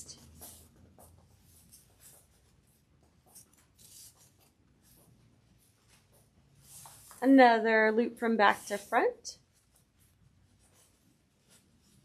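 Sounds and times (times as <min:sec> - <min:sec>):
soft scratches: 0:00.0 - 0:07.4, 0:08.4 - 0:12.0
ribbon rustling: 0:00.0 - 0:07.6, 0:08.4 - 0:12.0.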